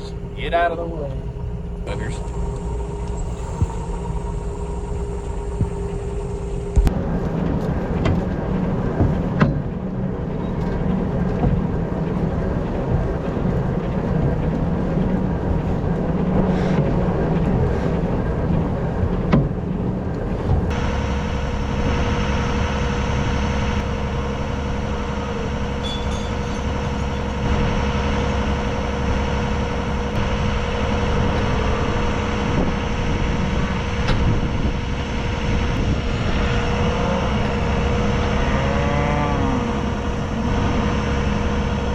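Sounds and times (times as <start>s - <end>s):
steady hum: 0.0s - 41.9s
tractor engine running: 0.0s - 41.9s.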